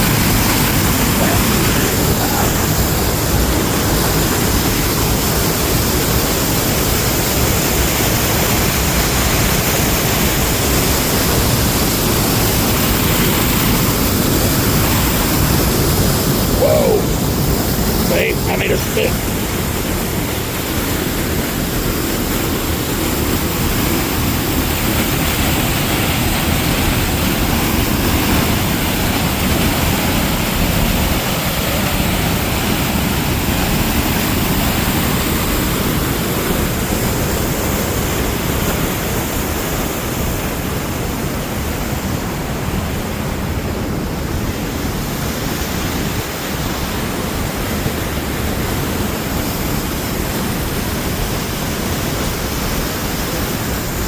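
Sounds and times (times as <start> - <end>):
rushing creek water: 0.0 - 54.0.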